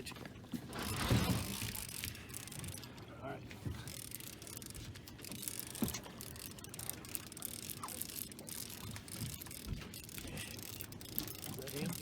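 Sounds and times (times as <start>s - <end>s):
fishing reel gears clicking: 0.8s - 3.0s, 3.8s - 12.0s.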